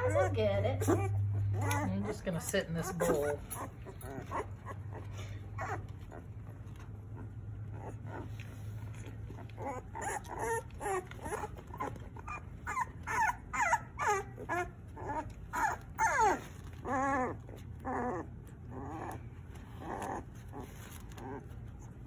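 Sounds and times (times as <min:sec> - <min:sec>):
puppies whining and whimpering: 0:00.0 - 0:22.0.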